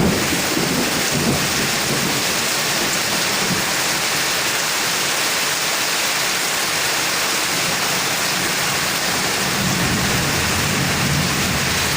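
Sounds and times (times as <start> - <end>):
heavy rain hissing: 0.0 - 11.9.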